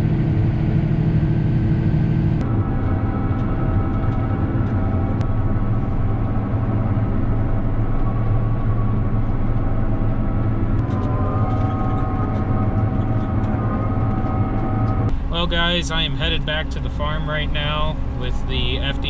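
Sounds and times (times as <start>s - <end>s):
combine harvester running: 0.0s - 19.0s
high machine whine: 0.0s - 19.0s.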